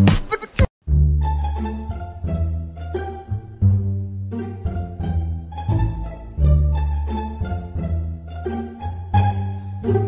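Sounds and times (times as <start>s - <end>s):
playful plucked strings: 0.4s - 10.0s.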